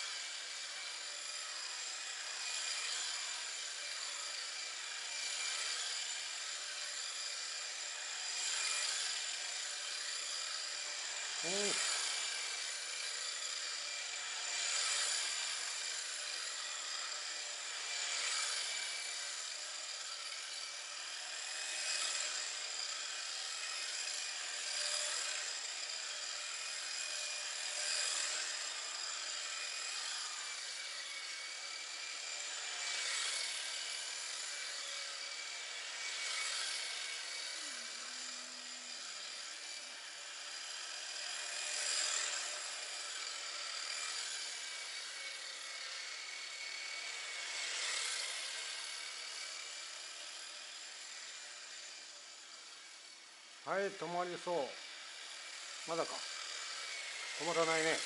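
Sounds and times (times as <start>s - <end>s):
electric motor whining: 0.0s - 50.1s, 53.7s - 58.0s.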